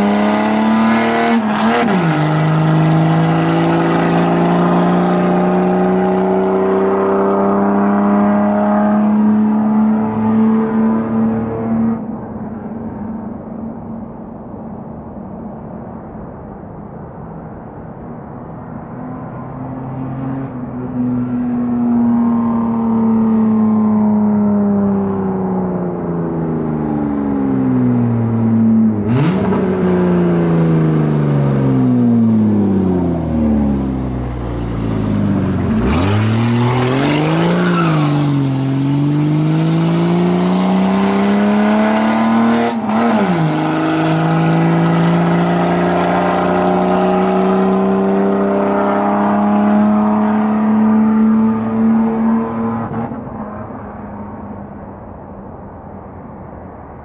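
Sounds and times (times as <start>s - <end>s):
car engine revving: 0.0s - 16.6s, 17.3s - 56.1s.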